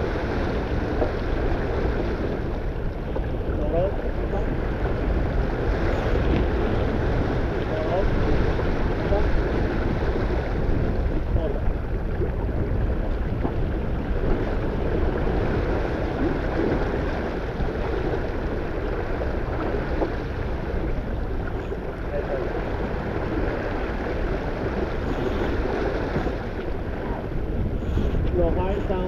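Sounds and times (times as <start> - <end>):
water rushing along hull: 0.0 - 29.0
wind buffeting microphone: 0.0 - 29.0.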